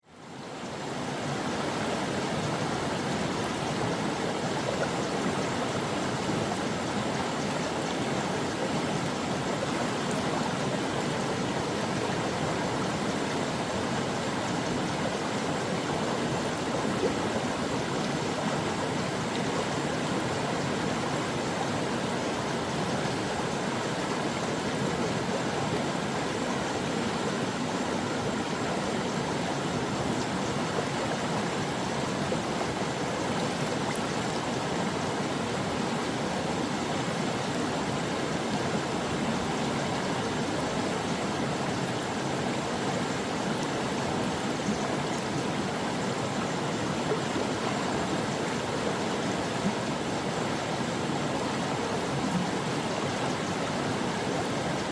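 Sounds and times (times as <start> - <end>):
stream flowing over rocks: 0.1 - 54.9.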